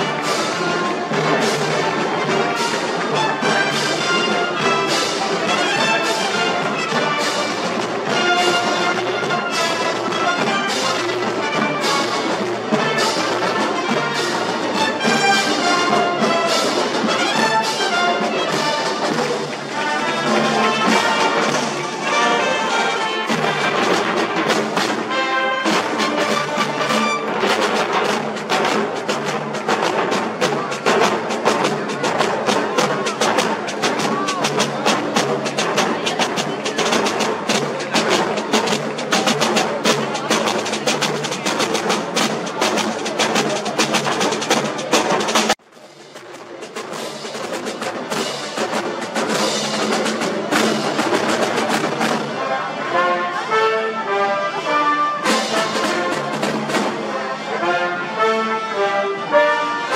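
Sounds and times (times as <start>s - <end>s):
drum strokes: 0.0s - 52.4s, 55.2s - 57.1s
marching band playing: 0.0s - 59.9s.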